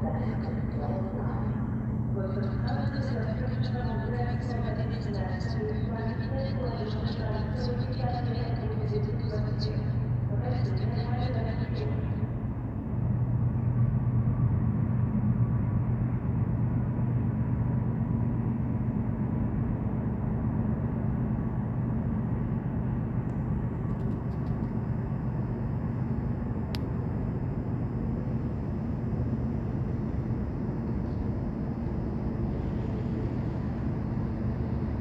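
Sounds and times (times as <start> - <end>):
freight train low rumble: 0.0 - 35.0.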